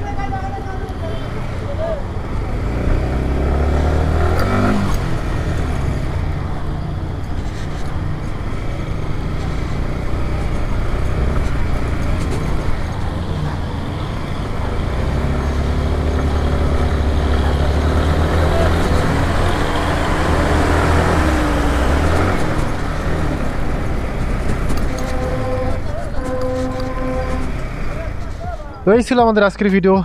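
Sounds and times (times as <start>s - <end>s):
road noise: 0.0s - 30.0s
vehicle engine rumble: 0.0s - 30.0s.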